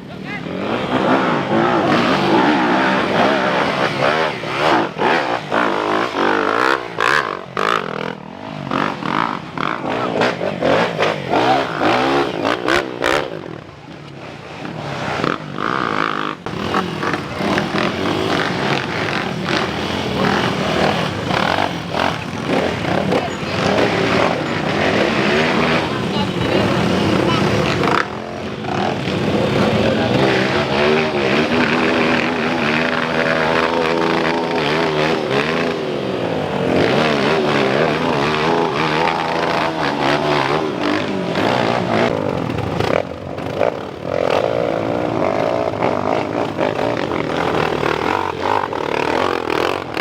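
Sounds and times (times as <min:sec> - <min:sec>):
motorcycle engines revving hard: 0:00.0 - 0:50.0.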